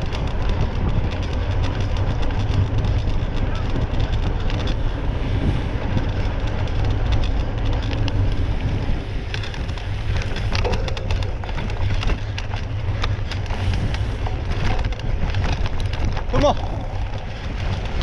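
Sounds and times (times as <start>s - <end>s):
sharp clicks and rattles: 0.0s - 18.0s
wind rumbling on microphone: 0.0s - 18.0s.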